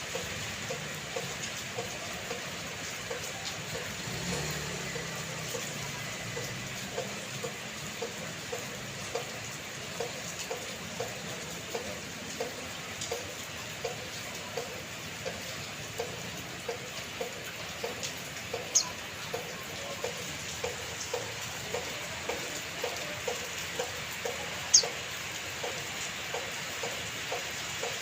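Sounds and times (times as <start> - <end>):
drops plinking: 0.0 - 28.0
steady rain falling: 0.0 - 28.0.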